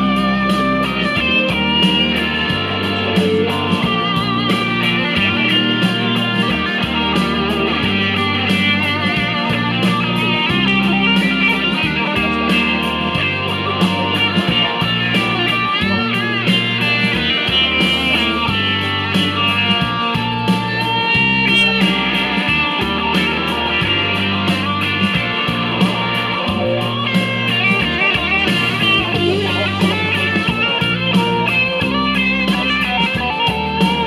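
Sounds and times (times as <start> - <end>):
blues-rock instrumental: 0.0 - 34.0
electric guitar: 0.0 - 34.0
stepping bass line: 0.0 - 34.0.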